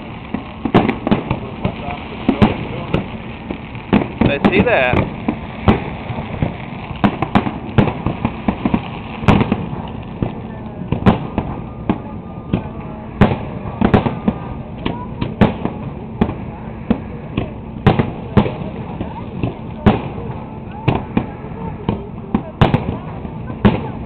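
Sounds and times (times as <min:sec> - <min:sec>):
background rumble: 0:00.0 - 0:24.0
fireworks bangs: 0:00.0 - 0:24.0.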